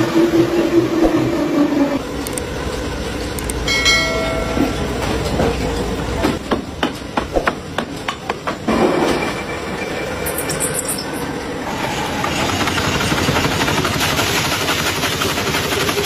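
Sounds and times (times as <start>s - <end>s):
factory machinery rumbling and rattling: 0.0s - 16.0s.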